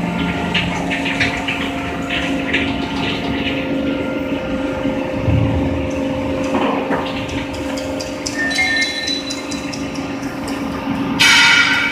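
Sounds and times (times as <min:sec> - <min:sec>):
hydraulic machine humming: 0:00.0 - 0:11.9.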